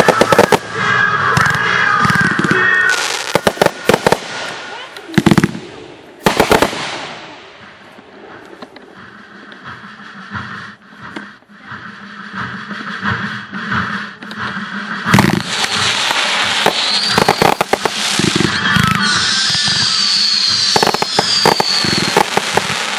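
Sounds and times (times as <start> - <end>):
fireworks bursting with bangs: 0.0 - 10.4, 14.6 - 22.9.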